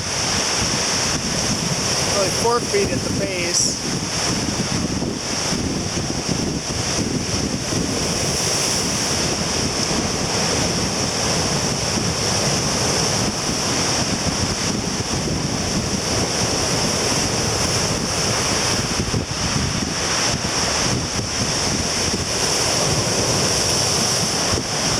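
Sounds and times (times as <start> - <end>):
surf breaking on beach: 0.0 - 24.9
wind buffeting microphone: 0.0 - 24.9.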